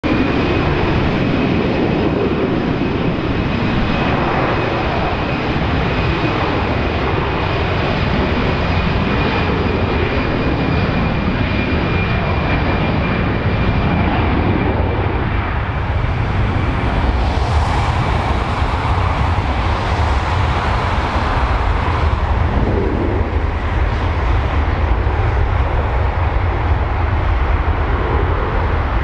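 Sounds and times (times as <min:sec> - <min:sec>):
jet engines at taxi power: 0:00.0 - 0:29.0.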